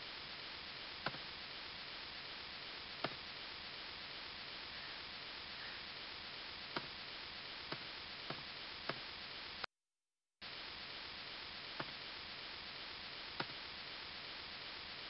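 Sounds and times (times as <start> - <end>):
microphone hiss: 0.0 - 9.7, 10.4 - 15.0.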